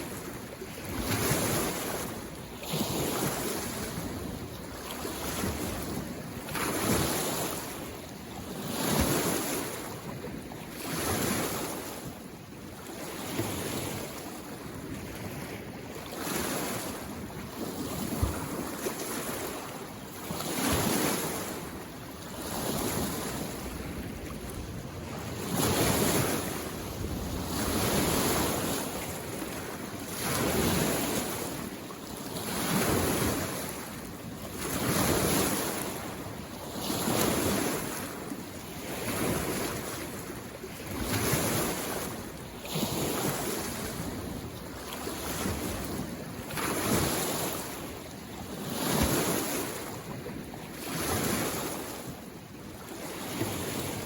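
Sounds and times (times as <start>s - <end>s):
small waves washing in: 0.0s - 54.0s.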